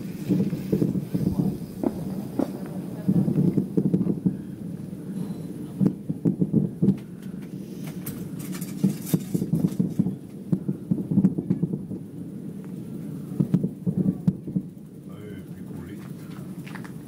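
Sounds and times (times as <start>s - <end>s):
distant fireworks popping and booming: 0.0s - 17.0s.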